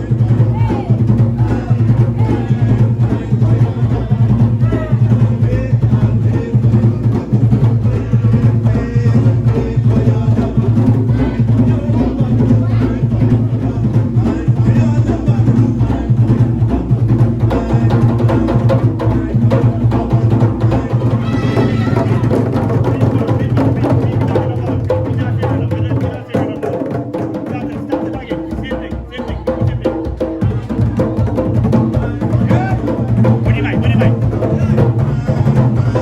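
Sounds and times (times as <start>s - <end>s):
fast driving drum beat: 0.0s - 36.0s.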